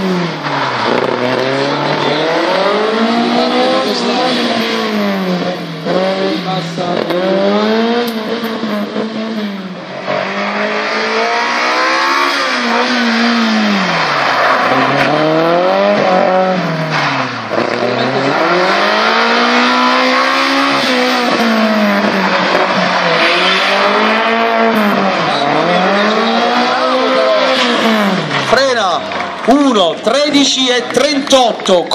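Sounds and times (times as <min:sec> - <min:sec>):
car engine revving: 0:00.0 - 0:31.6.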